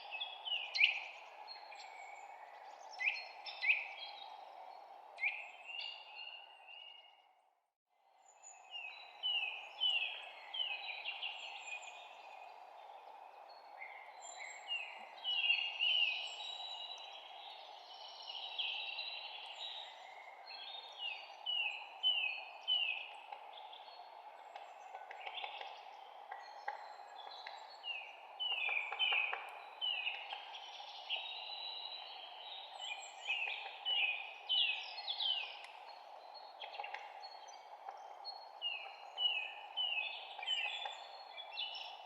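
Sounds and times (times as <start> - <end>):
songbirds chirping and singing: 8.3 - 42.0.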